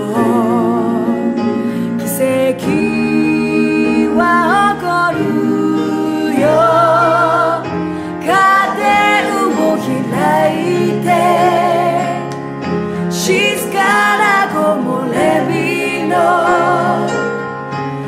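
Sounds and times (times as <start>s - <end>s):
instrumental accompaniment: 0.1s - 18.0s.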